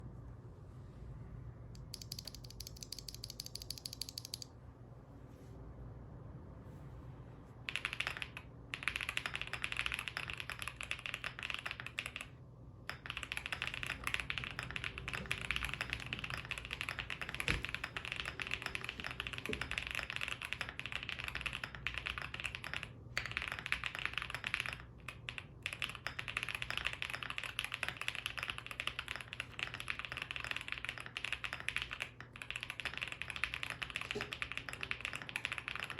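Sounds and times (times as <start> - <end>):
mechanical keyboard typing: 1.8 - 4.5, 7.7 - 35.9.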